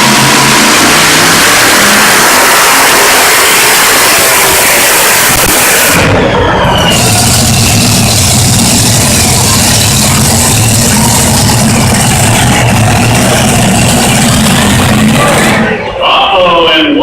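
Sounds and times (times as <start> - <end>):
tractor engine at full throttle: 0.0 - 16.0.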